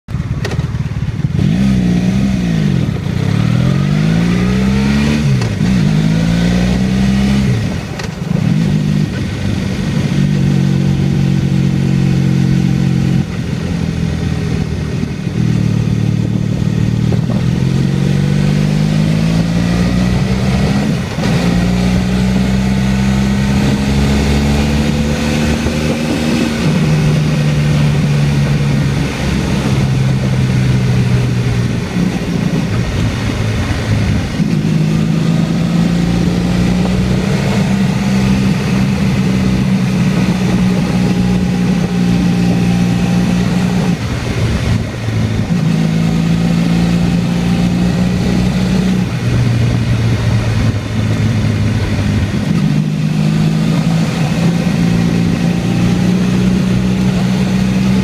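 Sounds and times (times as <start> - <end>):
motorcycle engine accelerating: 0.1 - 58.0.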